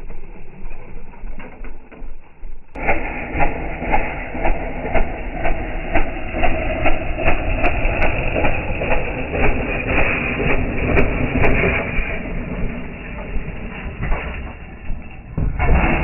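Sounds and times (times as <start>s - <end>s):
slowed motorbike engine thumping: 1.2s - 16.0s.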